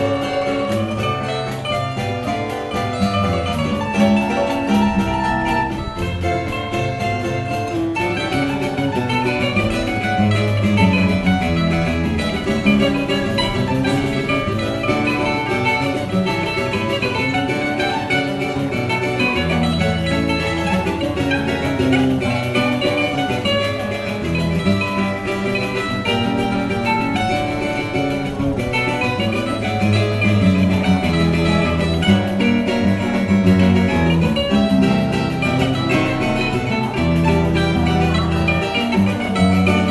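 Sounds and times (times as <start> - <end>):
bass notes: 0.0 - 39.9
plucked strings ensemble: 0.0 - 39.9.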